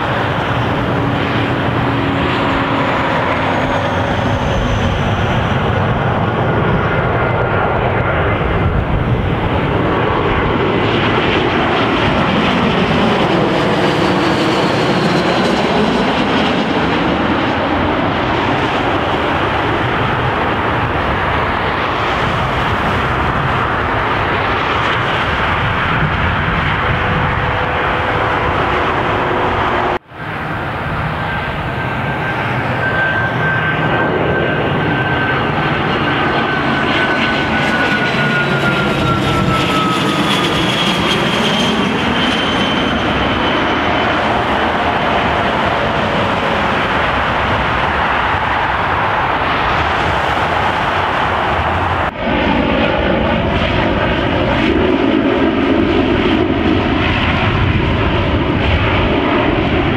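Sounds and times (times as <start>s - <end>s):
airliner engines whining: 0.0s - 59.9s
propeller drone: 0.0s - 59.9s.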